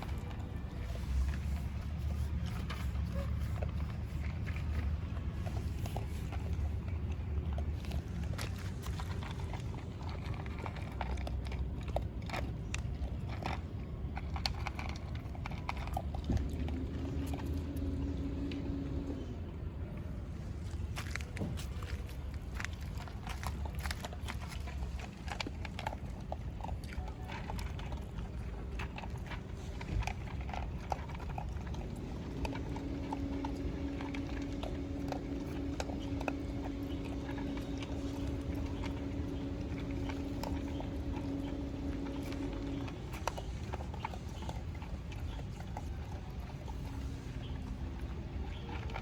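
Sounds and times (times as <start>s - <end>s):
dogs eating crunching: 0.0s - 49.0s
steady low hum: 0.0s - 49.0s.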